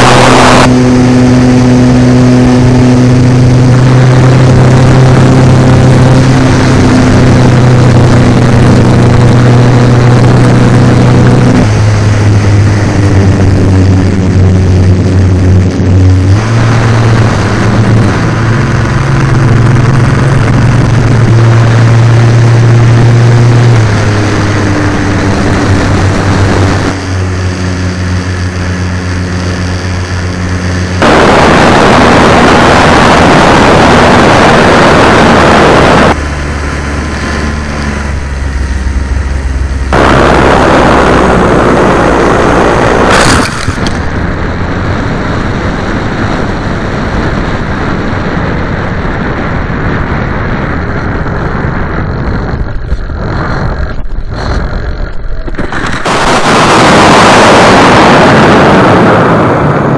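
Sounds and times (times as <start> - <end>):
wind rush: 0.0 - 59.9.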